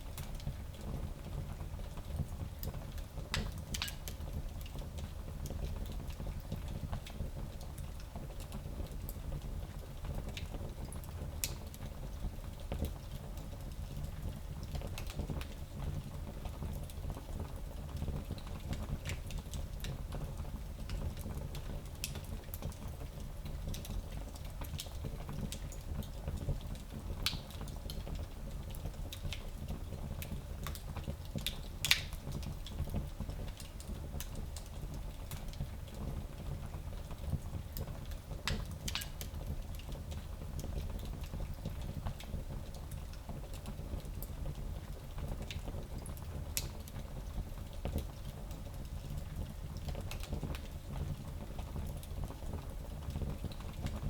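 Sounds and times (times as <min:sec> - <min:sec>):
fire crackles and pops: 0:00.0 - 0:54.0.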